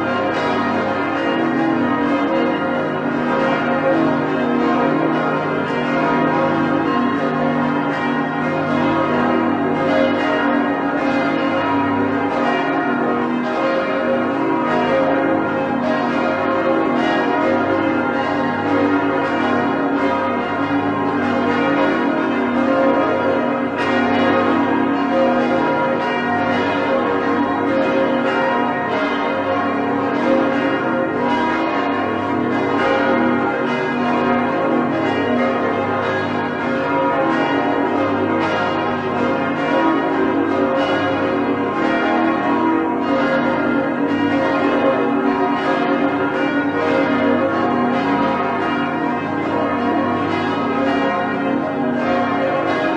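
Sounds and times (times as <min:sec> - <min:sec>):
church bells pealing: 0:00.0 - 0:52.9.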